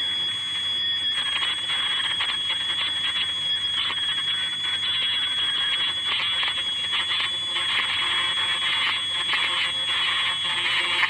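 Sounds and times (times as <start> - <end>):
ultrasonic machine whine: 0.0 - 11.0.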